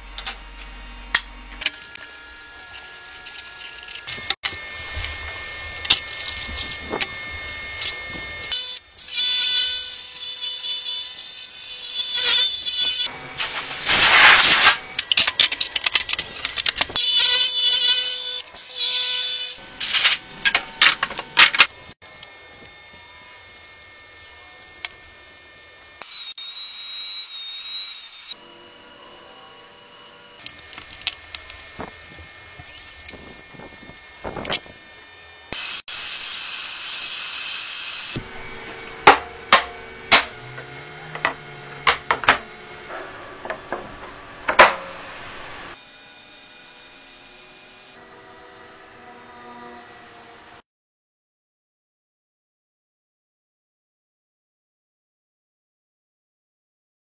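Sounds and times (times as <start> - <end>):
power tools cutting wood: 0.0 - 50.6.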